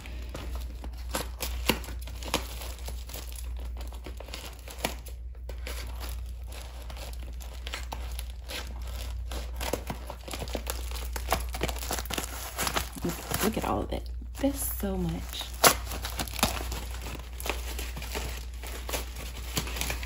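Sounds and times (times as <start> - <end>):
bubble wrap crinkling and tearing: 0.0 - 20.0.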